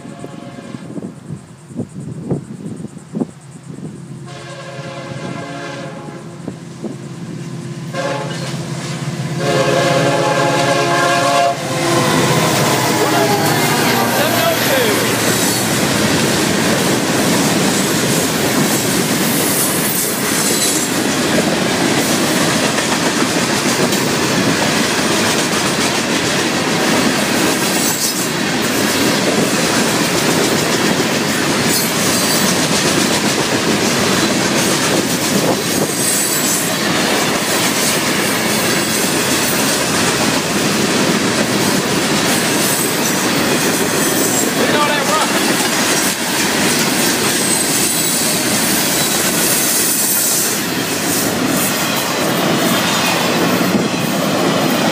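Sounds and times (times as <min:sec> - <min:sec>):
train wheels rumbling and rattling: 0:00.0 - 0:54.9.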